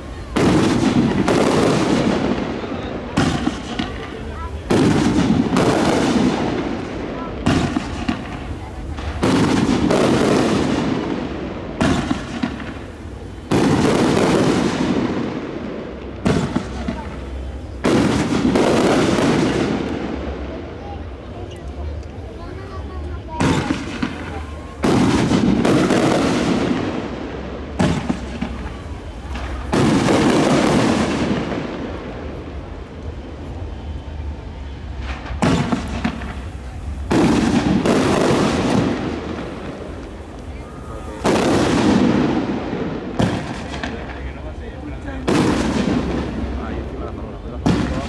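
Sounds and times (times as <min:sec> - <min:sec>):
fireworks booms: 0:00.0 - 0:48.0.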